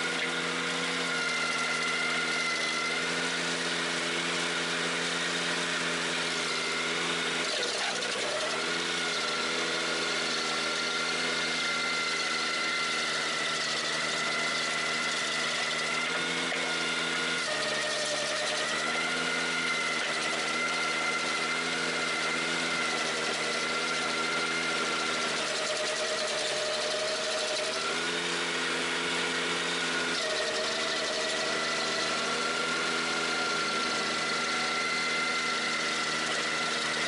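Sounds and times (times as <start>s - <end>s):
stump grinder high whine: 0.0s - 37.0s.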